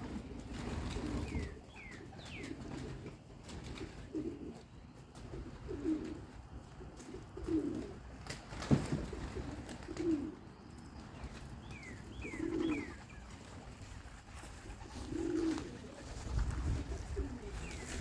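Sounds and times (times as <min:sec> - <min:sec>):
pigeons cooing: 0:00.0 - 0:08.2, 0:08.9 - 0:18.0.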